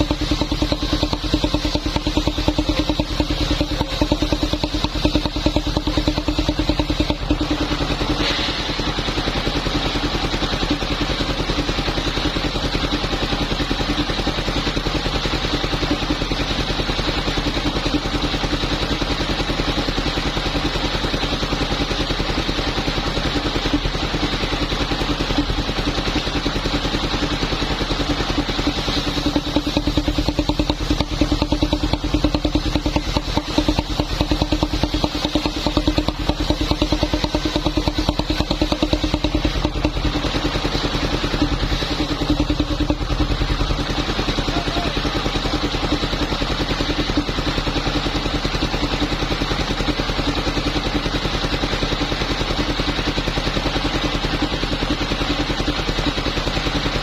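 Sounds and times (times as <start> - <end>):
wood saw engine running: 0.0 - 57.0.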